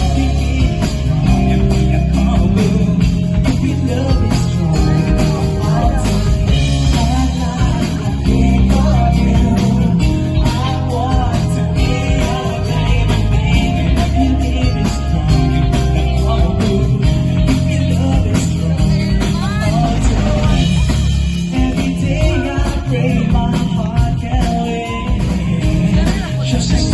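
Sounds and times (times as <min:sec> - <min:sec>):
live band playing: 0:00.0 - 0:26.9
person singing: 0:00.0 - 0:26.9.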